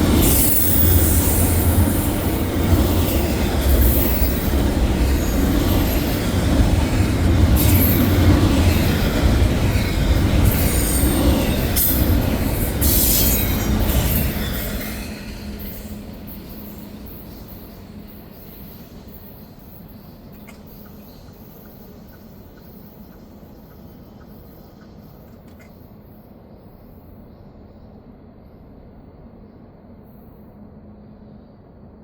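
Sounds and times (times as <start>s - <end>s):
train wheels rumbling on rail: 0.0s - 29.6s.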